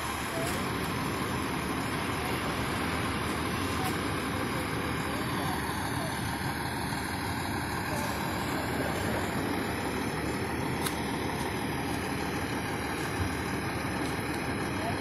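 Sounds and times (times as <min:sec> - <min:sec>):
fire engine idling: 0:00.0 - 0:15.0.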